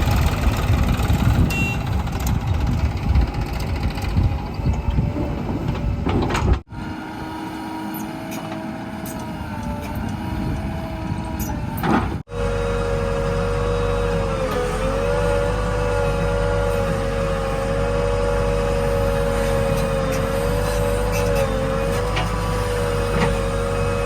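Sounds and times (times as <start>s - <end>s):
diesel engine rumble: 0.0s - 24.0s
engine whine: 0.0s - 24.0s.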